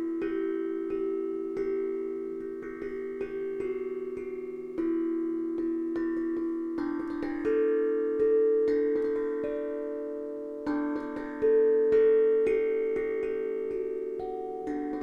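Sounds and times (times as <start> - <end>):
steel tongue drum melody: 0.0 - 15.0.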